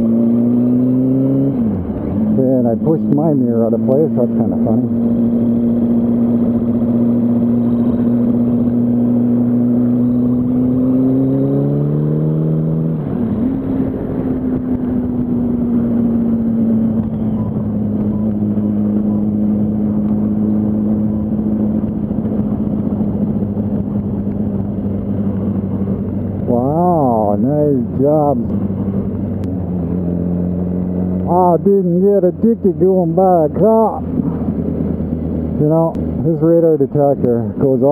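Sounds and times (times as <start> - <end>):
motorcycle engine accelerating: 0.0 - 37.9.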